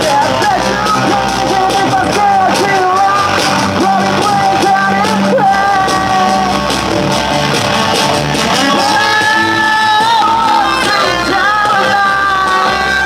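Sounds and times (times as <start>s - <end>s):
person singing long notes: 0.0s - 6.9s, 8.4s - 13.0s
rock band playing live: 0.0s - 13.0s.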